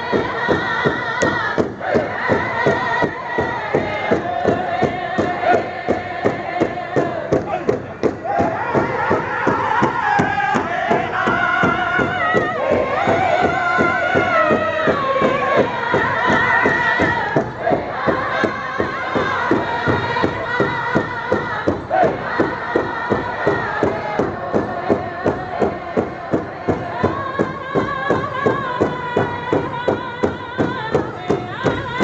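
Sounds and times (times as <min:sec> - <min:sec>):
bass drum steady fast beat: 0:00.0 - 0:32.0
group singing in high voices: 0:00.0 - 0:32.0.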